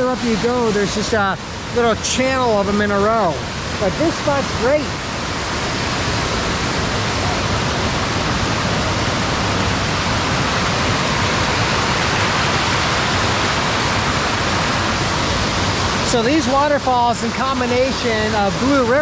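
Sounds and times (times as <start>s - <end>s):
small waterfall rushing over rock: 0.0s - 19.0s.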